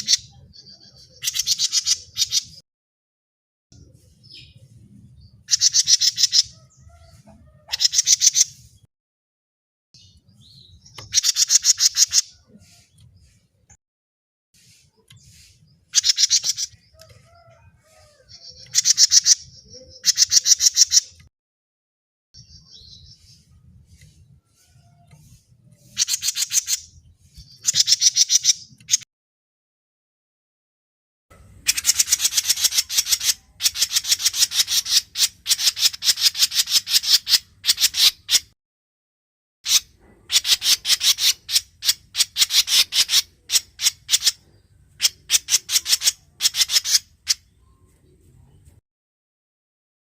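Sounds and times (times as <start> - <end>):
bird singing rapid notes: 0.0 - 2.6, 3.8 - 8.9, 10.0 - 13.7, 14.6 - 21.3, 22.4 - 29.1, 31.4 - 38.6, 39.7 - 48.0.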